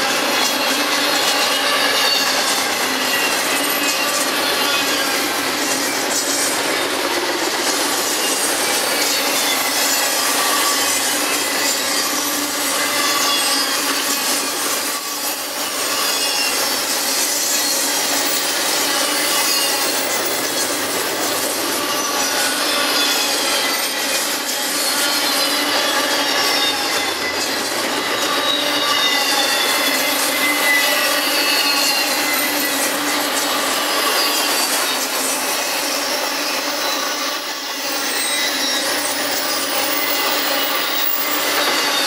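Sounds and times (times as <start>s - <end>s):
high wheel squeal tones: 0.0s - 42.0s
train wheels running on rails: 0.0s - 42.0s.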